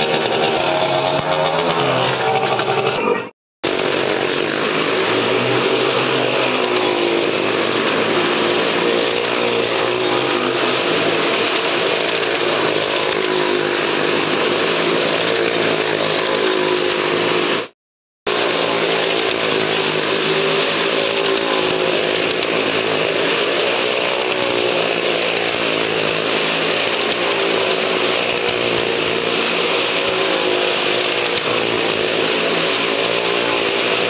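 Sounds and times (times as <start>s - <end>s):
stunt vehicle engines running: 0.0s - 34.0s.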